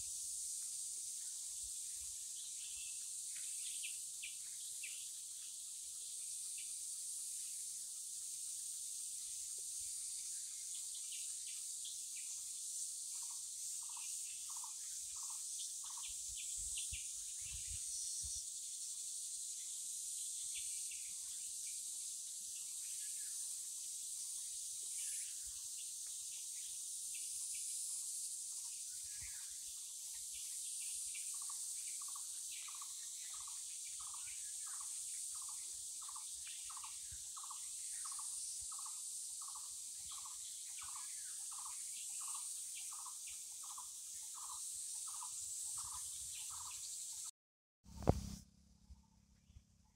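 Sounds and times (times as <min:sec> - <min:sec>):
insects droning: 0:00.0 - 0:47.3.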